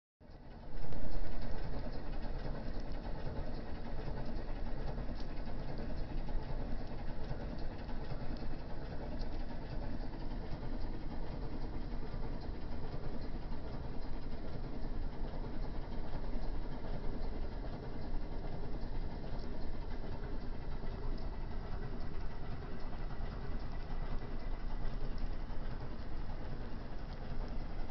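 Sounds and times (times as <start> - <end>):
faint humming tones: 0.3 - 27.9.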